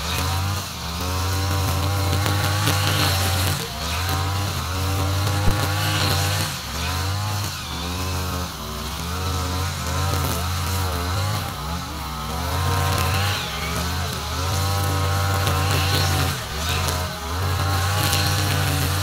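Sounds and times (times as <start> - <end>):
brush cutter engine revving: 0.0 - 19.0.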